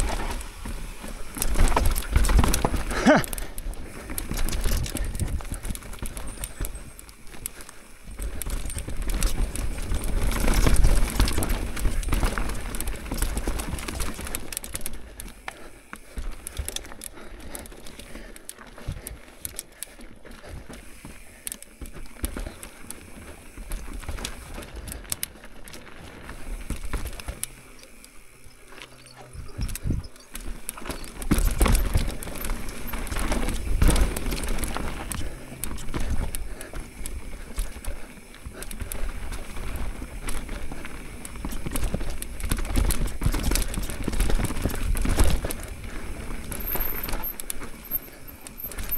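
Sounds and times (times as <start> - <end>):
bike rattling: 0.0 - 48.9
bike tyres rolling on dirt: 0.0 - 48.9.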